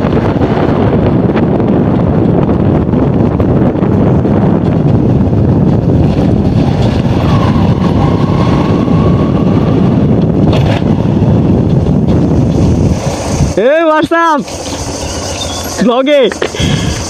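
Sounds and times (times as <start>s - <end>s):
motorcycle engine roaring: 0.0s - 17.0s
wind rushing over microphone: 0.0s - 17.0s.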